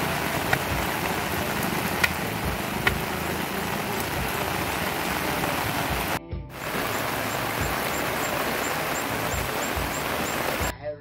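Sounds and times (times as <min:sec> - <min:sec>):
rain falling: 0:00.0 - 0:10.7.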